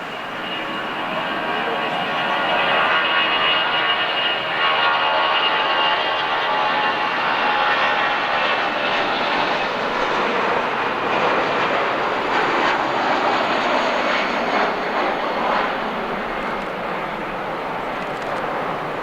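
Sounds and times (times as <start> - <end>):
jet airliner taking off: 0.0 - 19.0.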